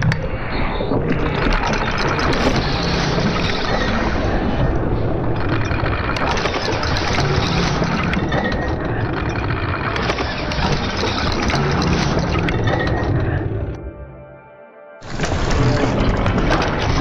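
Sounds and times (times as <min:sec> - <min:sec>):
clattering machine running: 0:01.3 - 0:13.6, 0:15.0 - 0:17.0.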